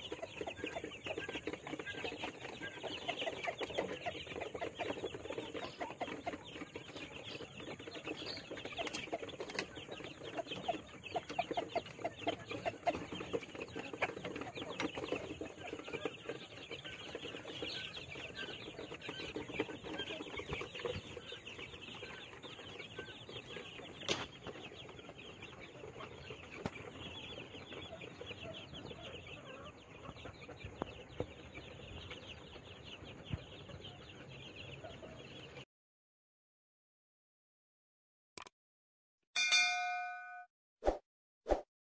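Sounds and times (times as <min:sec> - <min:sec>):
chicks peeping: 0:00.0 - 0:35.6.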